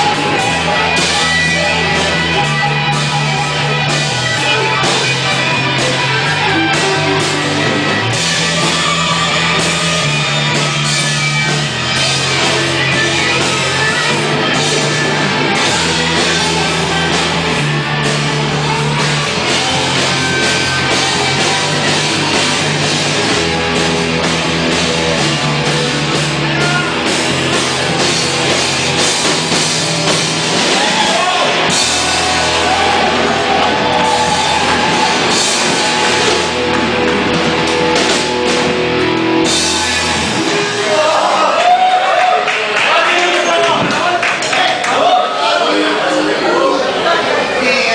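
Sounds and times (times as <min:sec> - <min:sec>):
loud rock music: 0:00.0 - 0:47.9.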